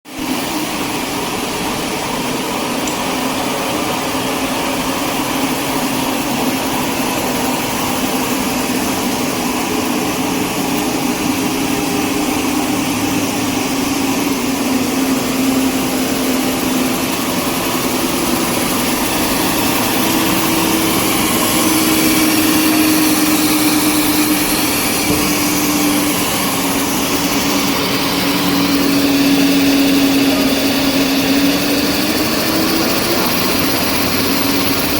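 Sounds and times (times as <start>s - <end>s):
machine whirring and droning: 0.2s - 34.9s.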